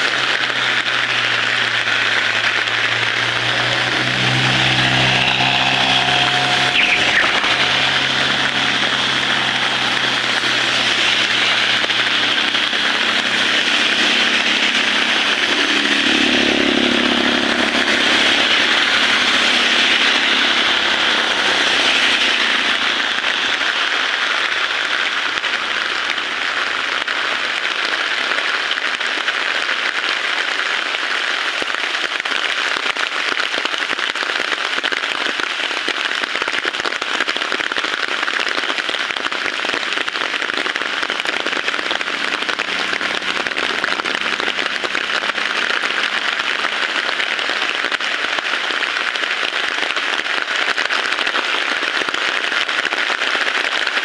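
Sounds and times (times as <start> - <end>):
heavy rain falling: 0.0 - 29.0, 37.2 - 54.0.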